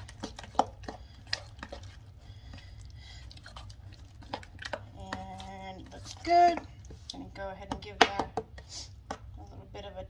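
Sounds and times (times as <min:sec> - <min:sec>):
wet squishing of stirring: 0:00.0 - 0:09.4.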